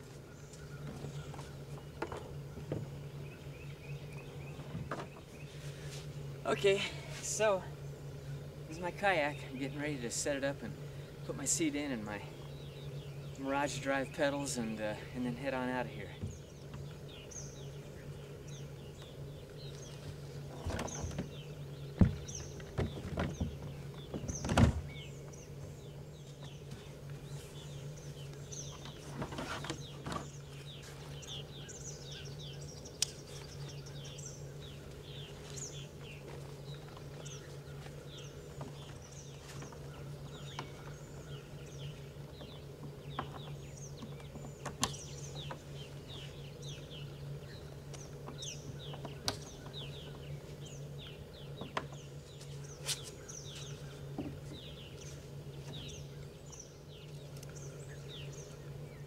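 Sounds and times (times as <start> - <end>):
songbirds chirping and singing: 0.0 - 59.0
steady low hum: 0.0 - 59.0.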